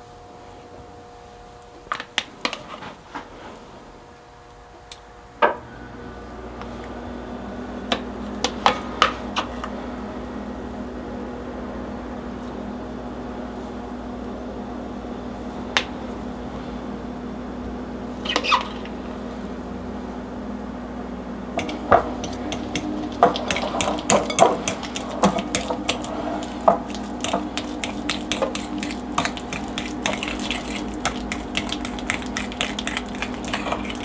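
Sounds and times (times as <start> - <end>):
kitchen appliance humming: 4.8 - 34.0.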